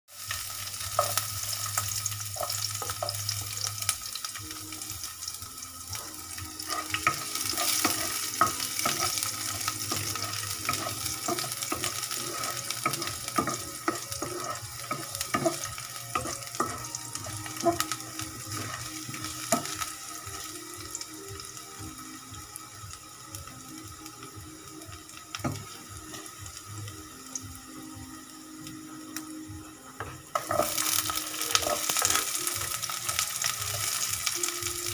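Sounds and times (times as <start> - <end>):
garlic sizzling in oil: 0.1 - 34.9.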